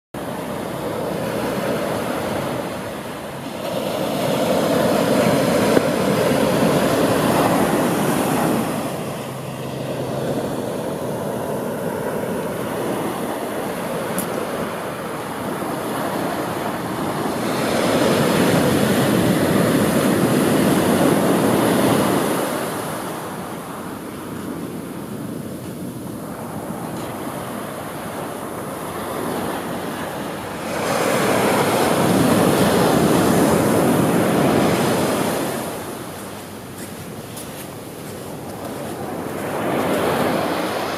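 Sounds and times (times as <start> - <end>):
ocean surf breaking on beach: 0.2 - 40.9.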